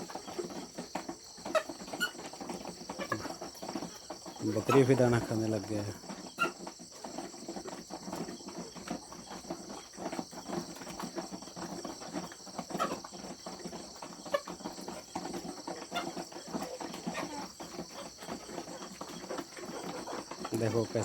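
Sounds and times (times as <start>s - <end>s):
animals pecking grain: 0.0s - 21.0s
crickets droning: 0.0s - 21.0s.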